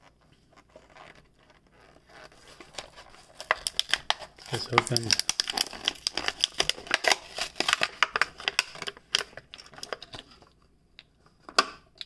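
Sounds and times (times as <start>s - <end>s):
plastic blister pack crinkling: 0.0s - 10.6s.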